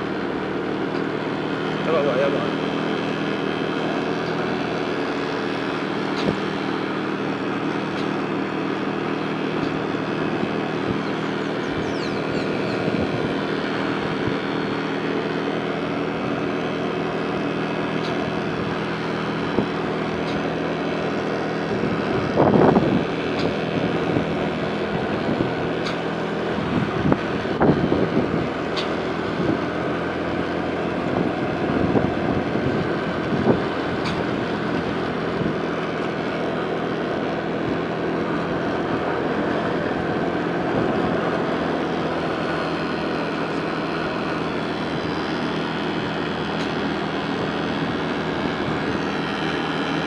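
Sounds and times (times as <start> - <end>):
vehicle engine humming: 0.0 - 50.0.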